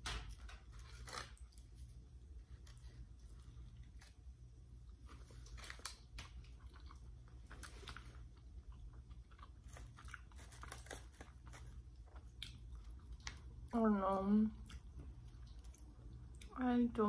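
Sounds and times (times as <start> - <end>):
steady low hum: 0.0 - 17.0
person chewing food: 0.3 - 13.7, 14.5 - 16.6.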